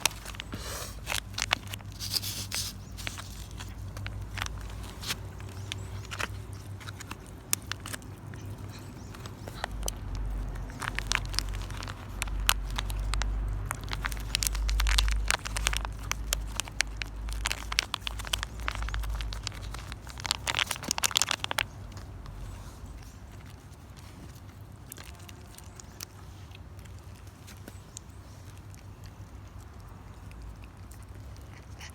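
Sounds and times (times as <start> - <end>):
cat chewing treats: 0.0 - 31.9.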